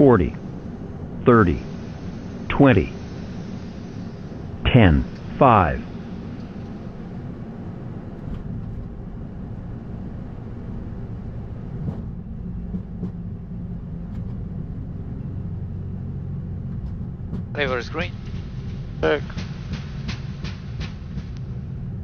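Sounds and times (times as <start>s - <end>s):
jet engines: 0.0s - 22.0s
wheels rumbling on runway: 0.0s - 22.0s.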